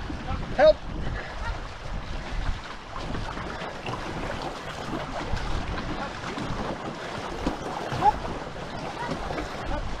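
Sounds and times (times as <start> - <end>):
water rushing and splashing: 0.0 - 10.0
wind buffeting microphone: 0.0 - 10.0.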